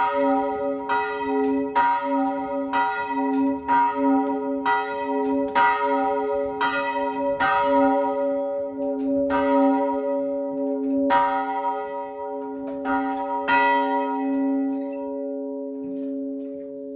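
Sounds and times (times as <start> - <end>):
church bells ringing: 0.0 - 16.9.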